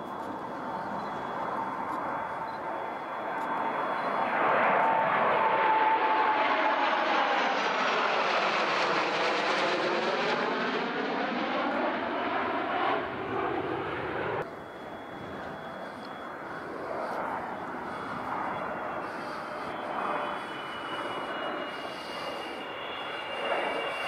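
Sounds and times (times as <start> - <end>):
jet engine high whine: 0.0 - 24.0
jet fighters flying past: 0.0 - 24.0.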